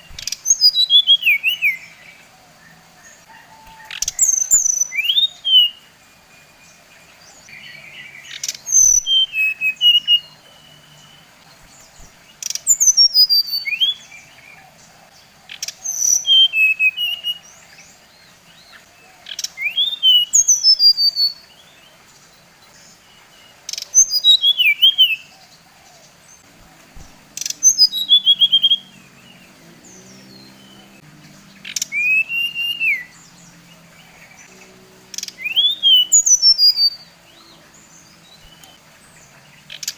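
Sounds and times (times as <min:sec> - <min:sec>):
bird whistling song: 0:00.0 - 0:14.6, 0:15.5 - 0:18.0, 0:18.6 - 0:21.8, 0:23.0 - 0:25.4, 0:26.4 - 0:38.9.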